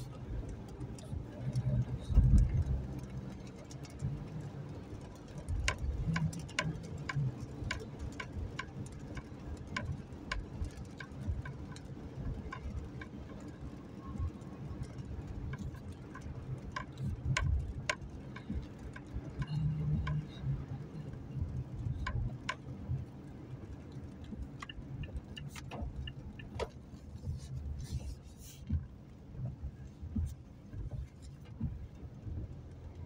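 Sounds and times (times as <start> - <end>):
car road rumble: 0.0 - 33.0
raindrops tapping on car: 0.0 - 33.0.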